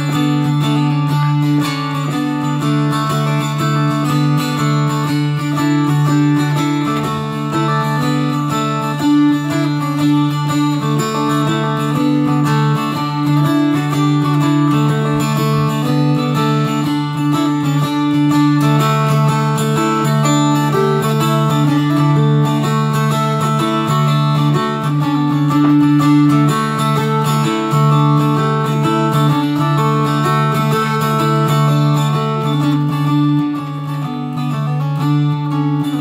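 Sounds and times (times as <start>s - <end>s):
mountain dulcimer playing: 0.0s - 36.0s.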